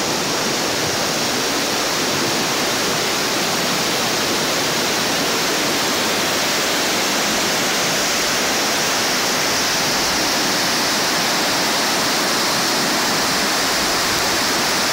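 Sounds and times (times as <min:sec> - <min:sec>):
water rushing down spillway: 0:00.0 - 0:14.9.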